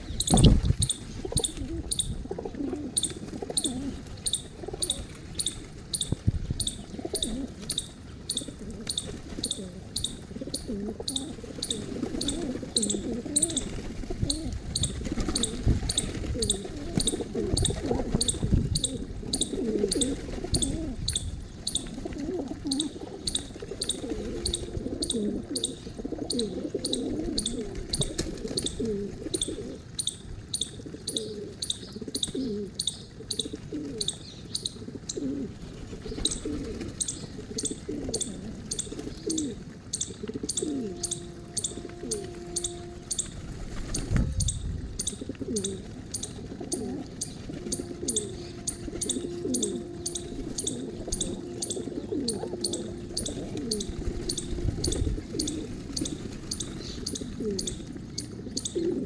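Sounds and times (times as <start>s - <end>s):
pigeons cooing: 0.0s - 59.0s.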